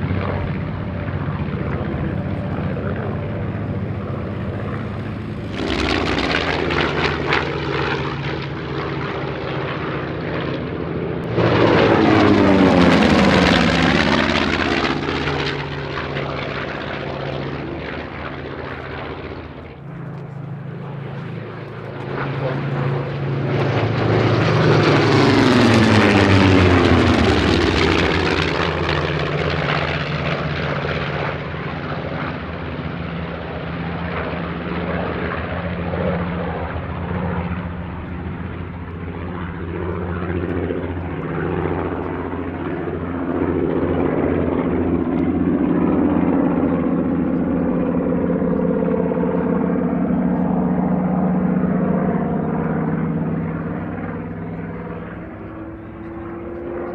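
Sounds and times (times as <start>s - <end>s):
piston engines droning: 0.0s - 56.9s
propeller planes flying past: 0.0s - 56.9s.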